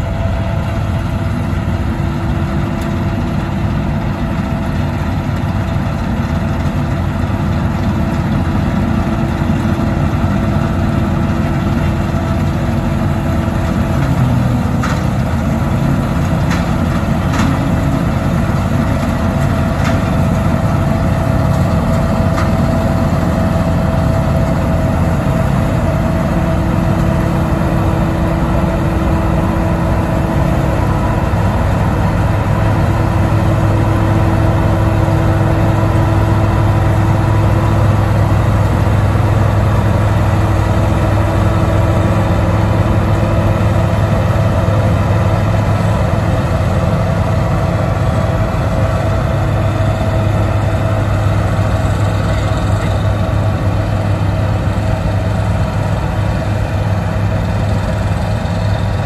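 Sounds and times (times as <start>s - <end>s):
combine harvester engine and machinery: 0.0s - 59.0s.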